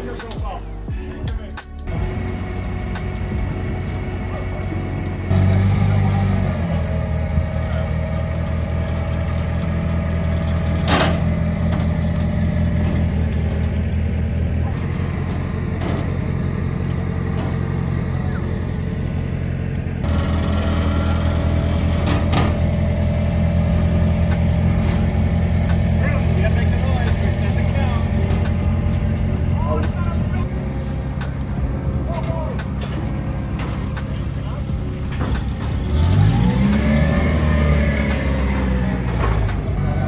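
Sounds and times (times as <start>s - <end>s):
forklift engine idling: 0.0s - 40.0s.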